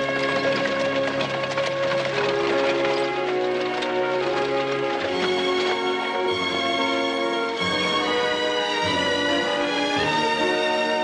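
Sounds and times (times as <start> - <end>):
film score music with held notes: 0.0 - 11.0.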